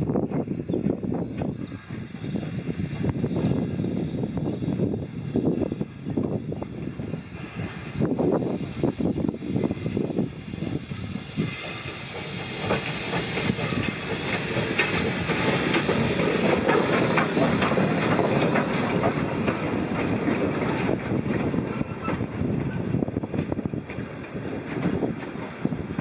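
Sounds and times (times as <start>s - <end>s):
steam hissing: 0.0s - 26.0s
train wheels clicking on rail joints: 0.0s - 26.0s.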